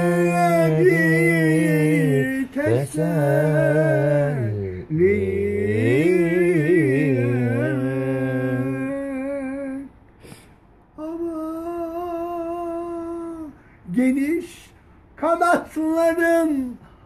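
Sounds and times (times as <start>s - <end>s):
man singing wordless melody: 0.0s - 10.0s, 10.9s - 16.8s
lower held vocal part: 0.0s - 14.2s.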